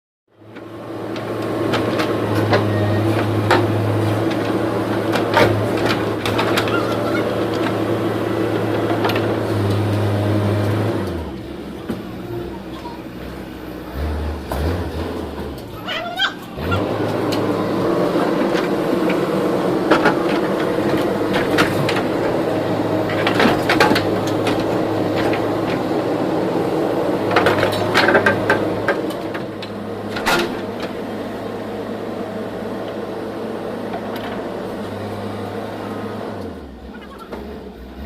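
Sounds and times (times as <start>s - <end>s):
diesel engine running: 0.3s - 38.0s.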